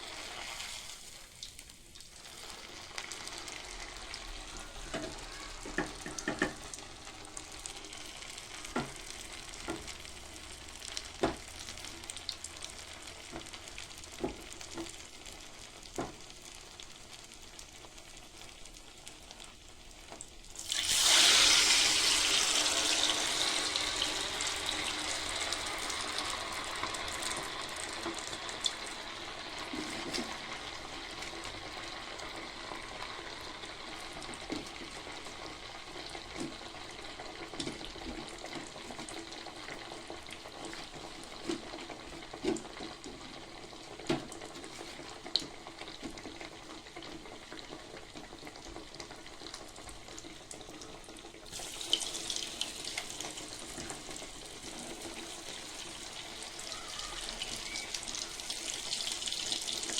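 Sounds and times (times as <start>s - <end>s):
cutlets sizzling in hot oil: 0.0s - 59.9s.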